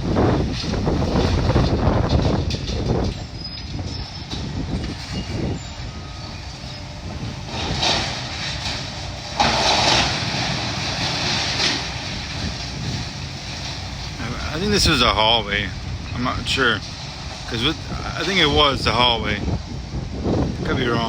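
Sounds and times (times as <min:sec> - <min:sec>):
debris crashing and scraping: 0:00.0 - 0:21.0
demolition machinery rumbling: 0:00.0 - 0:21.0.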